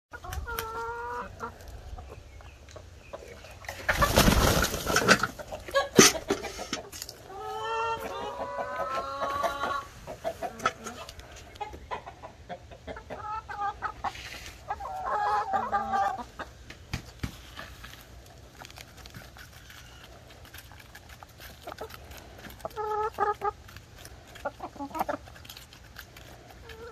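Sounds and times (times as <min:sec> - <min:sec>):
hens clucking: 0:00.1 - 0:26.9.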